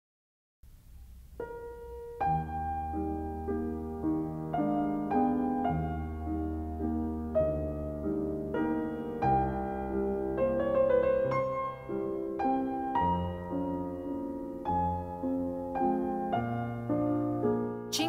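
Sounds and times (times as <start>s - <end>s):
slow quiet piano chords: 0.7s - 18.0s.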